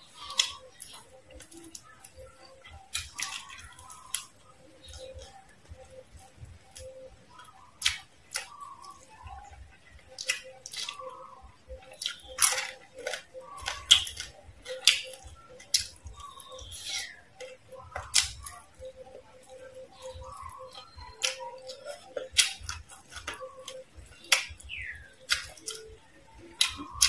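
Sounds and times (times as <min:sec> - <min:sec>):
chewing crispy fried food: 0:00.0 - 0:27.0.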